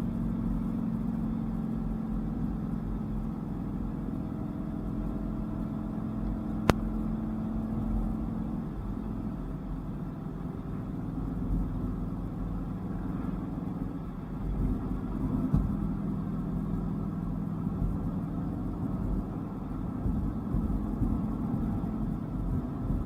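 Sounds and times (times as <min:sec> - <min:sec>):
car engine driving: 0:00.0 - 0:23.0
road noise: 0:00.0 - 0:23.0.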